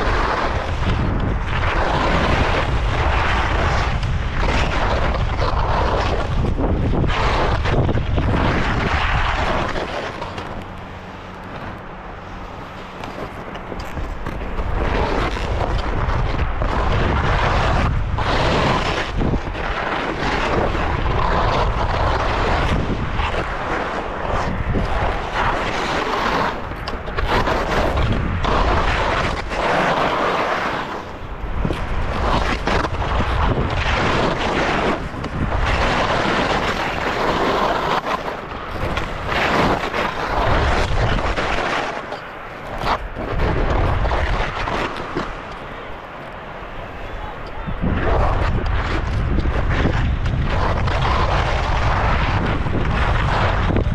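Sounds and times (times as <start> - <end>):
skis scraping on ice: 0.0 - 53.9.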